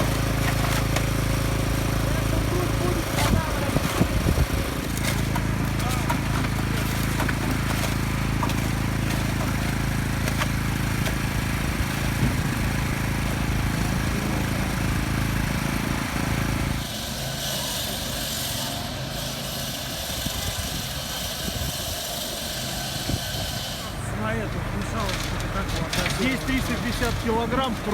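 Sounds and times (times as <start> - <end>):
engine running: 0.0 - 19.6, 21.5 - 27.9.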